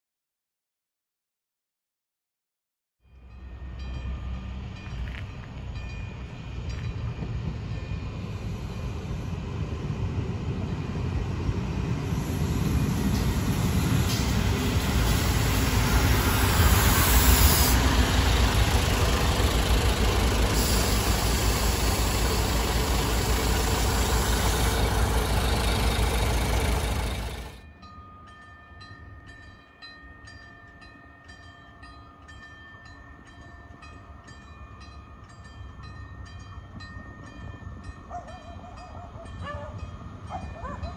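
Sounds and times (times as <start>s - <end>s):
diesel railcar passing: 3.0s - 40.9s.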